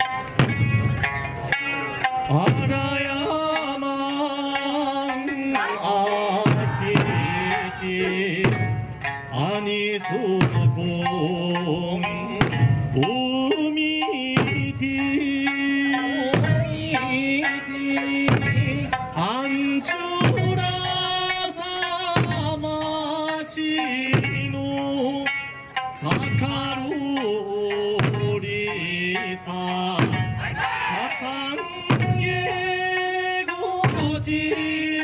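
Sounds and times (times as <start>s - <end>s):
music with drum beat: 0.0s - 35.0s.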